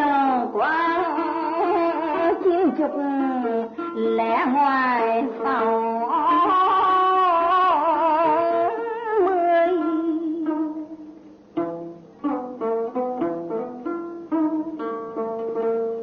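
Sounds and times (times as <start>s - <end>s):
plucked string notes: 0.0s - 16.0s.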